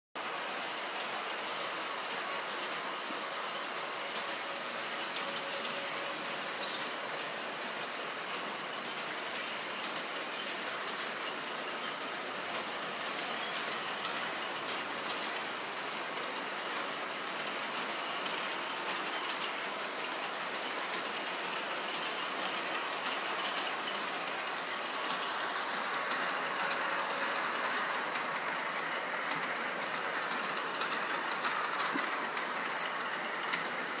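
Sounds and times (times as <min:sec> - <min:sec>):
model trains whirring: 0:00.2 - 0:34.0
wheels clicking over rail joints: 0:00.4 - 0:34.0.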